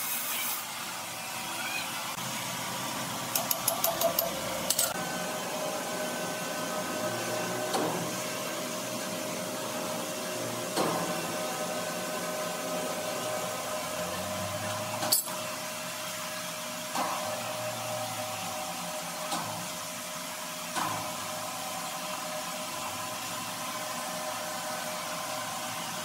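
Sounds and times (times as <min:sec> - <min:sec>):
sawmill machinery humming: 0:00.7 - 0:26.0.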